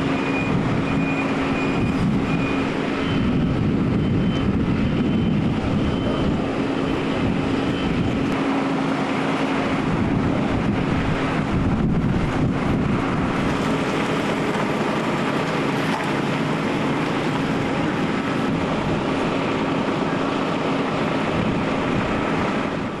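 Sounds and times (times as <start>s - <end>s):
vehicle engines idling: 0.0s - 23.0s.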